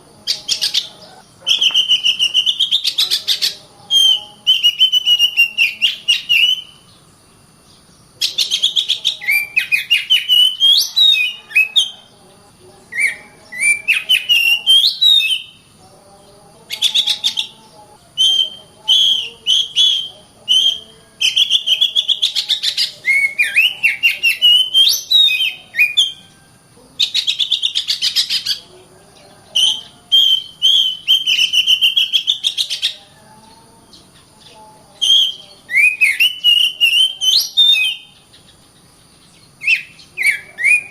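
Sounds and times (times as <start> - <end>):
magpie-robin singing: 0.0 - 40.9.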